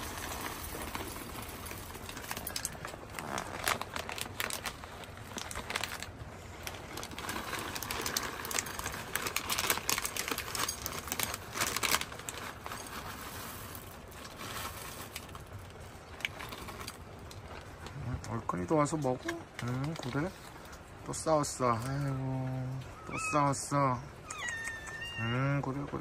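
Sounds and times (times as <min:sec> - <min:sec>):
plastic bag crinkling: 0:00.0 - 0:26.0.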